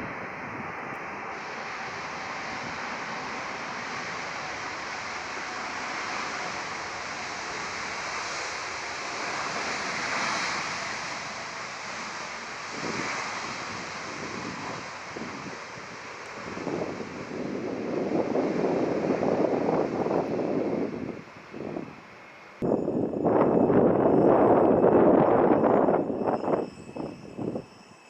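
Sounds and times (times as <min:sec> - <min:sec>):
jet engines roaring: 0:00.0 - 0:27.6
wind buffeting microphone: 0:00.0 - 0:27.9.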